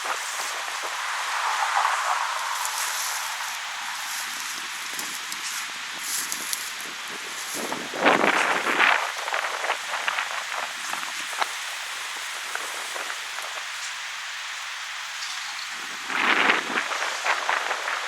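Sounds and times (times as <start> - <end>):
wind through trees: 0.0 - 18.0
light ticks and crackles: 2.6 - 18.0.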